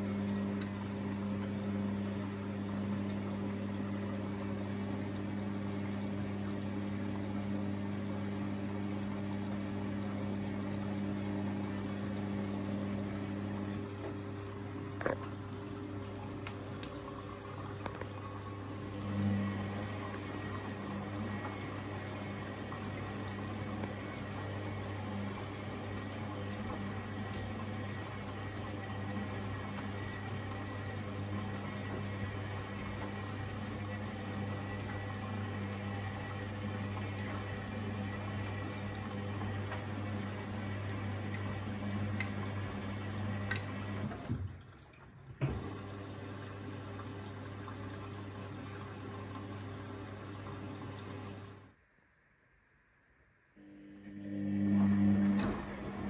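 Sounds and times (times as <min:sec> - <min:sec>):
washing machine motor hum: 0:00.0 - 0:51.8, 0:53.6 - 0:56.0.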